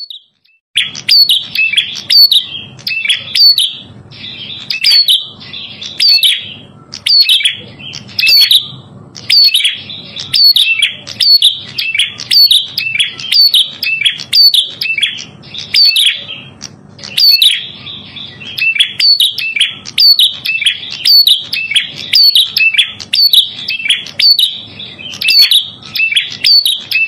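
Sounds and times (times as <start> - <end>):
songbird singing sharp high chirps: 0.0 - 27.0.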